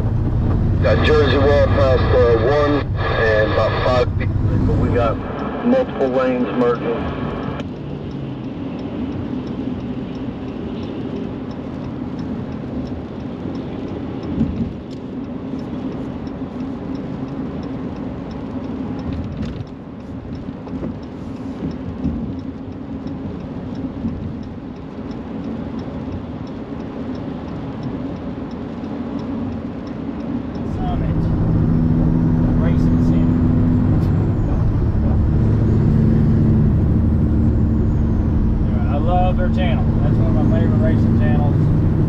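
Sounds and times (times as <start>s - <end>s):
engine drone: 0.0s - 19.8s, 20.6s - 42.0s
faint ticking: 0.1s - 42.0s.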